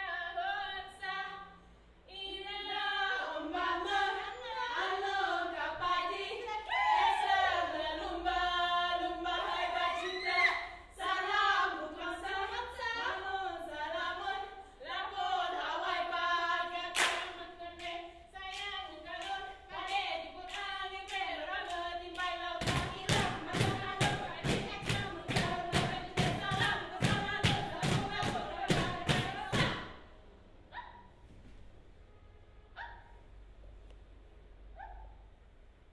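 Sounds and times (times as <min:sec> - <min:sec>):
group singing in unison: 0:00.0 - 0:30.1.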